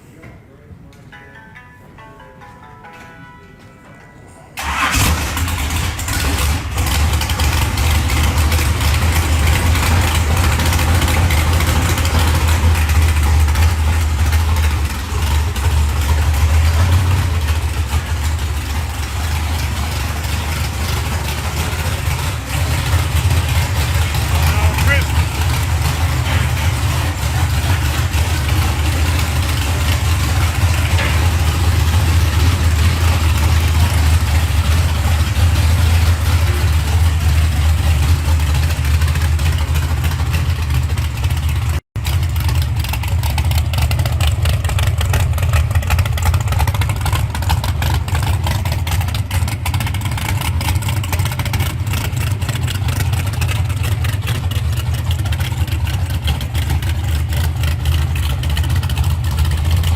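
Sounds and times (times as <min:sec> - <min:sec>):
car engine rumbling: 0:04.6 - 0:59.9.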